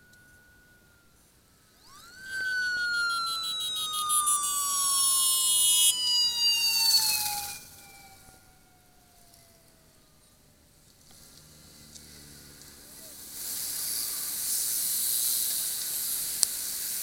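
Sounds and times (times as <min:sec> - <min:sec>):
motorcycle siren wailing: 0:00.0 - 0:14.7.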